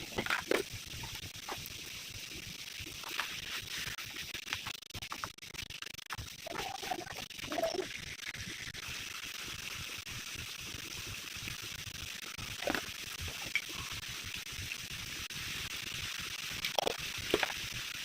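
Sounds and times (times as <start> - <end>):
curry sizzling in a pan: 0.0 - 18.0.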